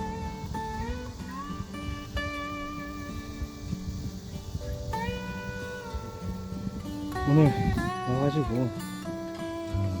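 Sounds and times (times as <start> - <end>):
low rhythmic backing: 0.0 - 10.0.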